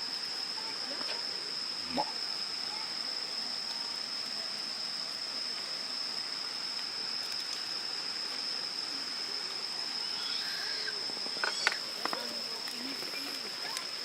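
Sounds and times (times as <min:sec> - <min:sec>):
insect high-pitched trill: 0:00.0 - 0:14.0.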